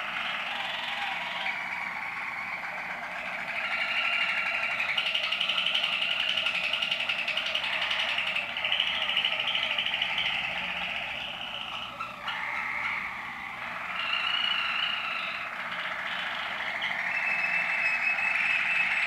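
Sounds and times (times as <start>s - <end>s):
canary trilling song: 0.0s - 19.0s.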